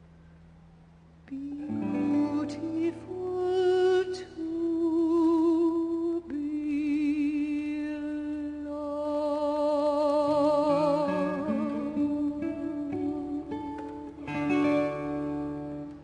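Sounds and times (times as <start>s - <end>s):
soprano singing with vibrato: 1.3s - 15.8s
soft accompaniment: 1.3s - 16.0s.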